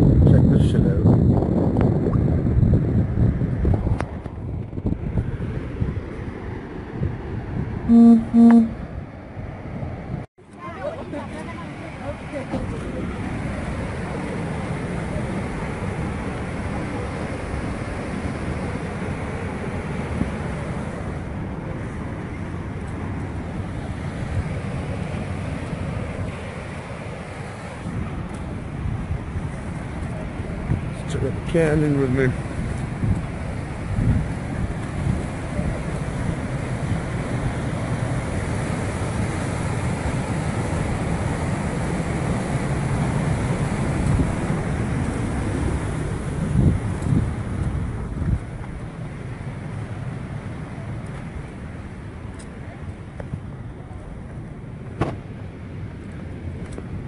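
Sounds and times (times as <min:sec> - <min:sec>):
wind buffeting microphone: 0:00.0 - 0:07.9, 0:08.7 - 0:57.0
river rushing: 0:10.6 - 0:57.0.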